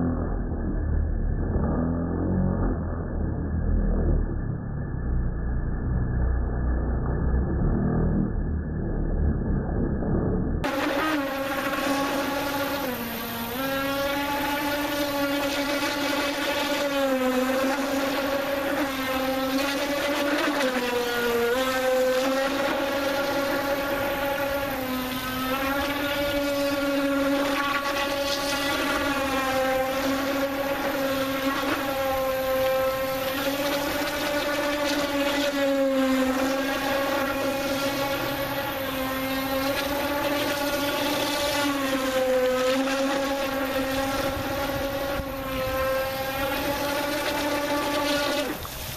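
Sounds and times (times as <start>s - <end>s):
rc boat motor whine: 0.0s - 48.9s.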